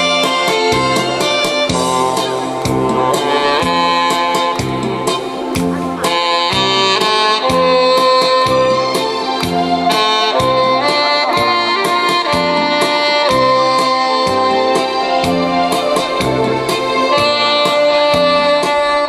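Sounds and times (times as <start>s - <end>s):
backing track with steady beat: 0.0s - 19.0s
saxophone melody: 0.0s - 19.0s.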